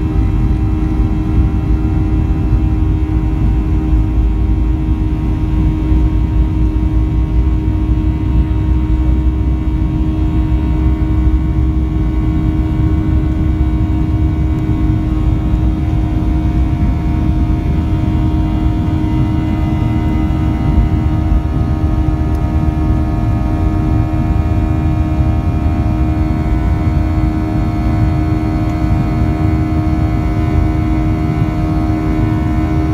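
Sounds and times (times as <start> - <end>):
jet engines droning in cabin: 0.0 - 32.9.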